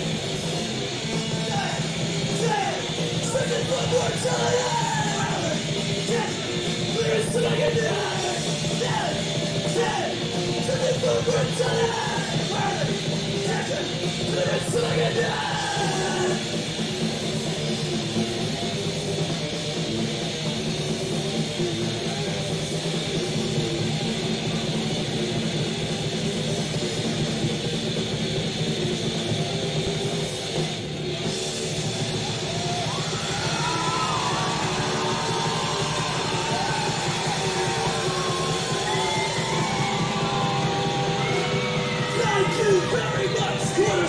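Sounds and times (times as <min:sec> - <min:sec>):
metal band playing live: 0:00.0 - 0:44.0.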